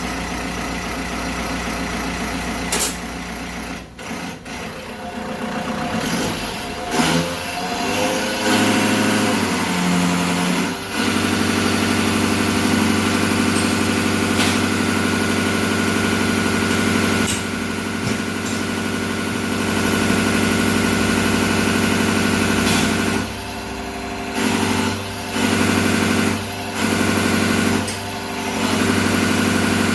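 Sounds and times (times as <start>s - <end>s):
diesel injection pump machinery running: 0.0s - 29.9s.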